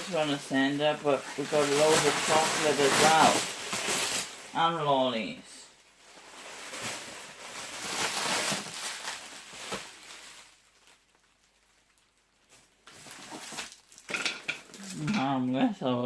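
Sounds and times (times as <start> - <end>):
packaging rustling and crinkling: 0.0 - 5.0, 5.9 - 15.2.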